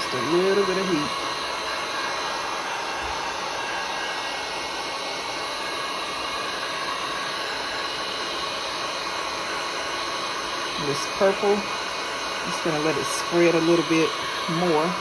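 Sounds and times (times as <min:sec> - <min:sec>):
heat gun blowing hot air: 0:00.0 - 0:15.0.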